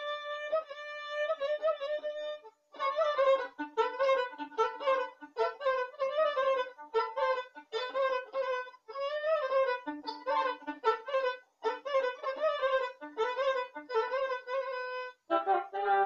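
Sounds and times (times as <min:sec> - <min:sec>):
solo violin folk melody: 0:00.0 - 0:16.0.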